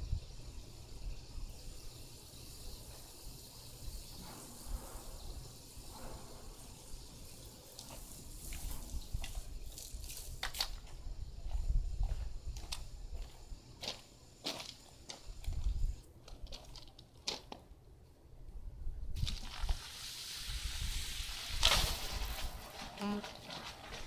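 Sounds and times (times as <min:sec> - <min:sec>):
garden hose spraying: 0:00.0 - 0:17.5, 0:19.2 - 0:24.0.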